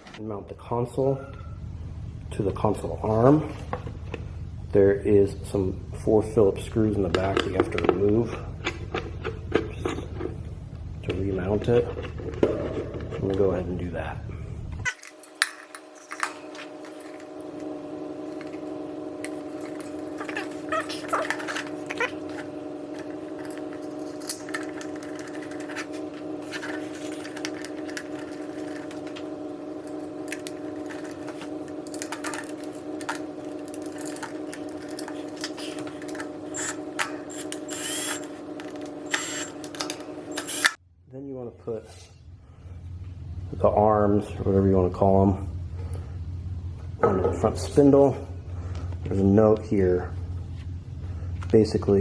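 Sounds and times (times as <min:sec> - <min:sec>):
motor hum: 0:00.0 - 0:40.9, 0:41.6 - 0:52.0.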